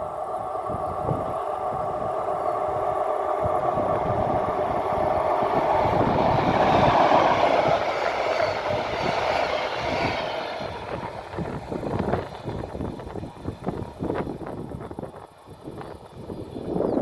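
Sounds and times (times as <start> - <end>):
train passing by: 0.0 - 17.0.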